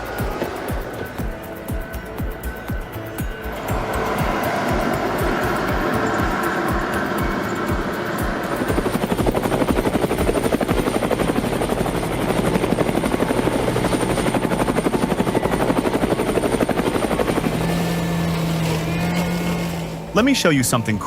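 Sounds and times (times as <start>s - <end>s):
machine chopping beat: 0.0s - 20.0s.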